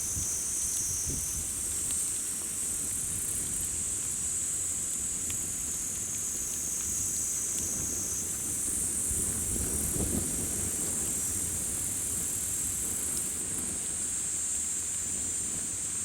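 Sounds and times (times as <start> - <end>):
campfire crackles: 0.0 - 16.0
summer insects chorus: 0.0 - 16.0.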